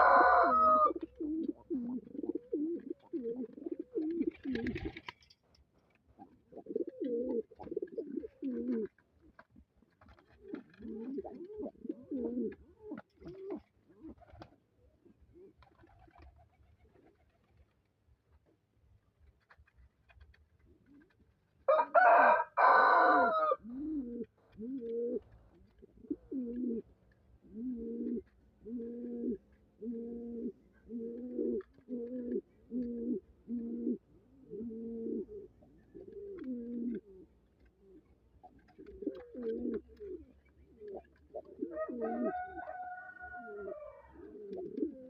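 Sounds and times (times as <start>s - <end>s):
pigeons cooing: 0.0s - 5.1s, 6.2s - 9.4s, 10.1s - 17.4s, 20.8s - 45.0s.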